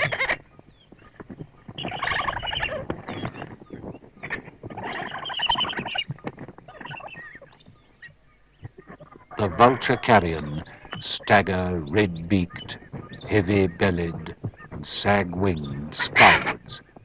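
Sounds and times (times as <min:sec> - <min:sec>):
vultures calling: 0:00.0 - 0:17.0.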